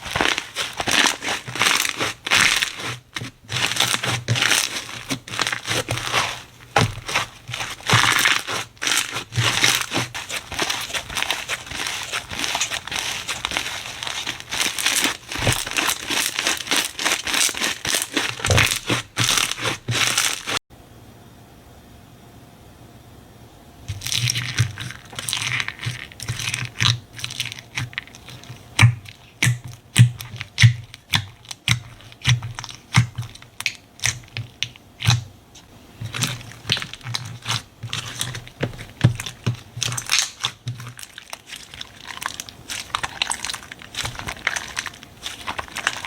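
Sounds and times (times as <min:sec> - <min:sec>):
slime crackling and popping: 0:00.0 - 0:20.6, 0:23.9 - 0:35.3, 0:36.0 - 0:46.0.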